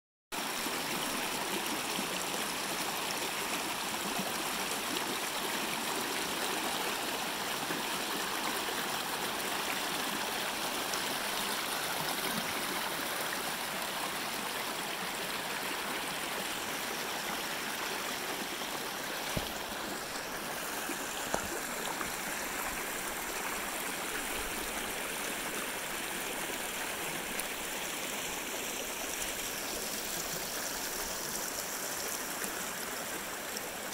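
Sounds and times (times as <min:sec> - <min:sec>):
creek rushing over rocks: 0:00.4 - 0:33.9.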